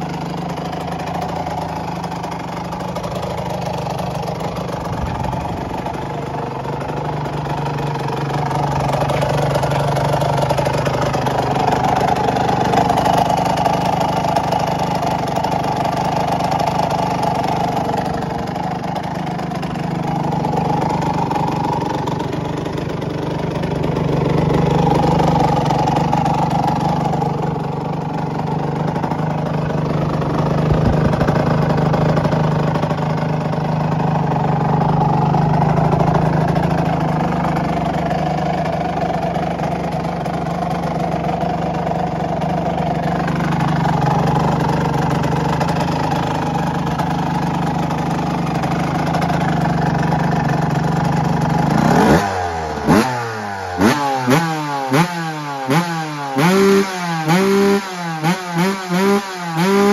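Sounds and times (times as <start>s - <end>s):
two-stroke engine idling: 0.0s - 59.9s.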